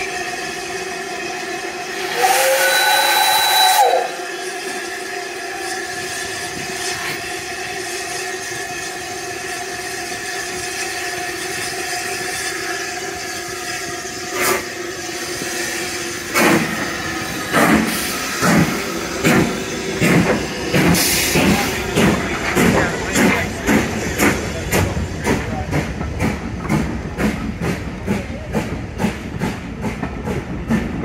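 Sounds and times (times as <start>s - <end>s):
steam hissing: 0.0s - 31.0s
steam locomotive chuffing: 0.0s - 31.0s.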